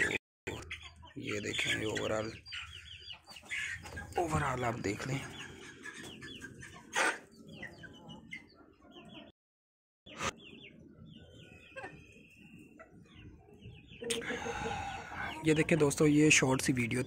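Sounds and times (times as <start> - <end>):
chicks cheeping and clucking: 0.0 - 9.4, 10.1 - 17.0.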